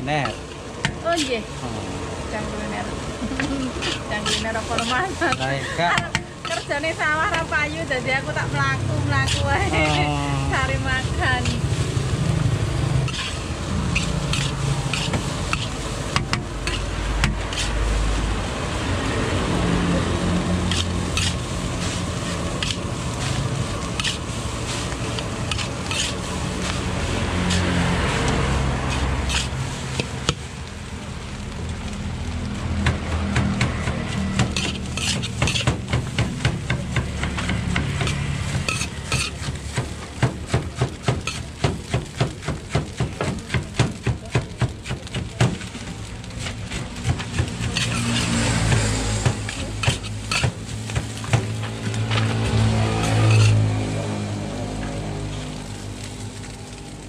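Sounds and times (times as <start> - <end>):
frying sizzle: 0.0 - 57.0.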